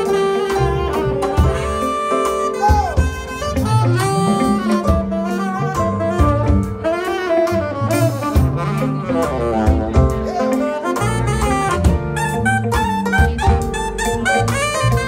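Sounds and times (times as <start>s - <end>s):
jazz band playing: 0.0s - 15.0s
saxophone solo: 0.0s - 15.0s.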